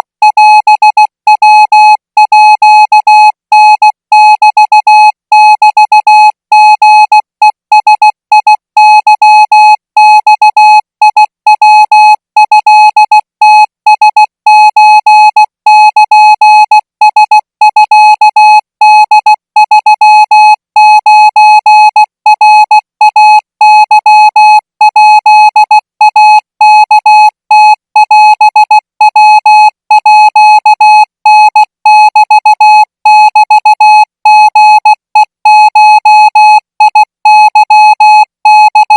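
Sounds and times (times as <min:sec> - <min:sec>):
morse code beeps: 0:00.3 - 0:38.9.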